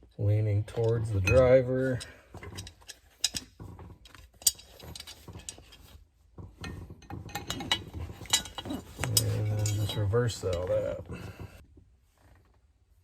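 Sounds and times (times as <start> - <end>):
tools and metal parts clinking: 0.6 - 11.4.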